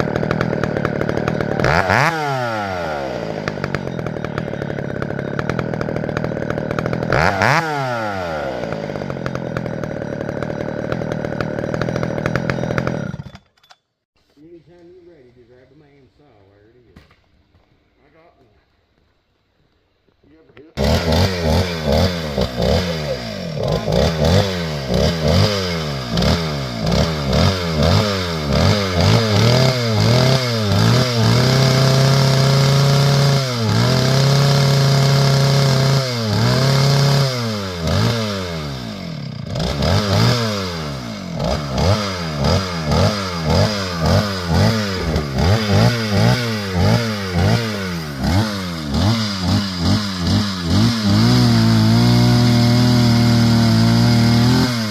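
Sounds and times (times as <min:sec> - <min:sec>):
chainsaw engine revving: 0:00.0 - 0:13.4, 0:20.6 - 0:54.9.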